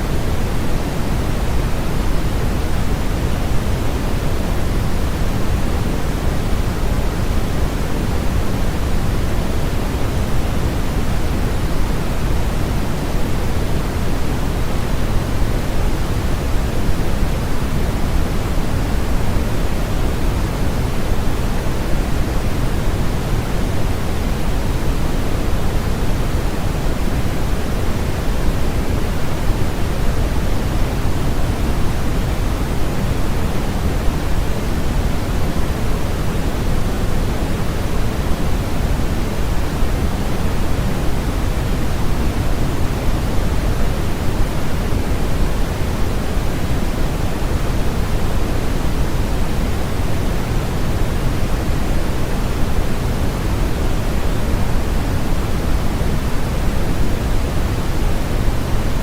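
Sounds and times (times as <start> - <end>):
steady pink noise: 0.0 - 59.0.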